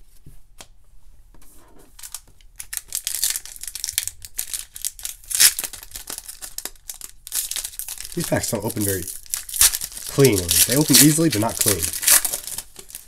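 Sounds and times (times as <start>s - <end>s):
foil wrapper crinkling and tearing: 2.0s - 13.0s.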